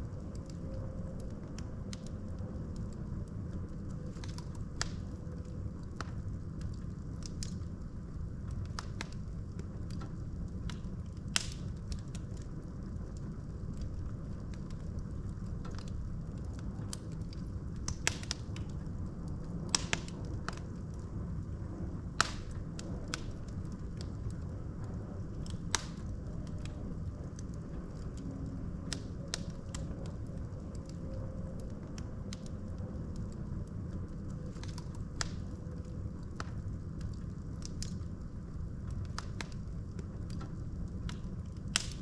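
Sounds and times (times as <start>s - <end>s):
flames rumbling: 0.0s - 42.0s
logs crackling and popping: 0.0s - 42.0s.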